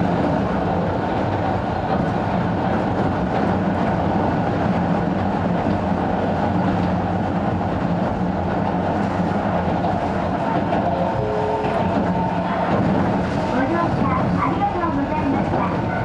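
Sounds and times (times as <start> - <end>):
electric train hum: 0.0 - 16.0
wheels on rails: 0.1 - 16.0.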